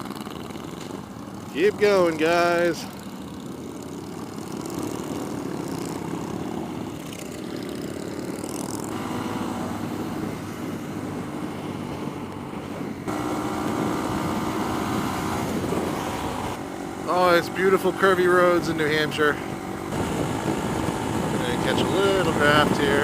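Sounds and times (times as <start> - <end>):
small motorcycle engine running: 0.0 - 23.0
wind rush: 4.3 - 23.0.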